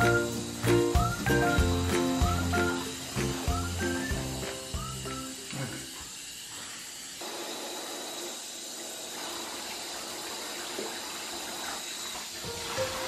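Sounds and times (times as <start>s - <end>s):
shower water spraying: 0.0s - 13.0s.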